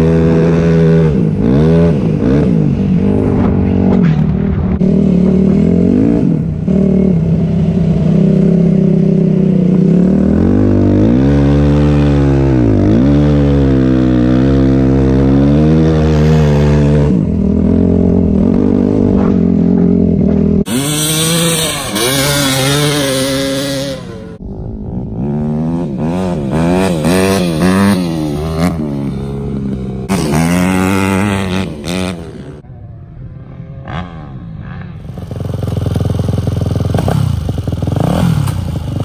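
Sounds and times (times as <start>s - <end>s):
dirt bike engine revving: 0.0s - 32.6s, 33.4s - 39.0s.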